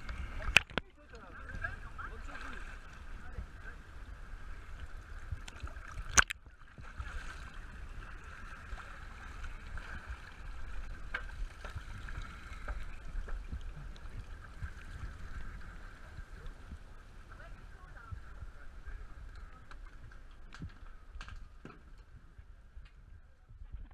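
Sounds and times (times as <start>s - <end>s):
water sloshing: 0.0s - 22.0s.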